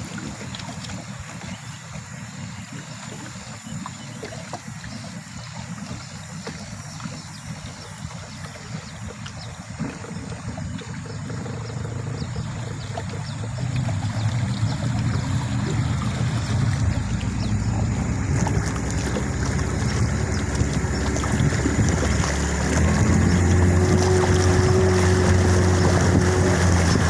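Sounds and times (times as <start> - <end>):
motorboat engine running: 0.0 - 27.0
wind: 0.0 - 27.0.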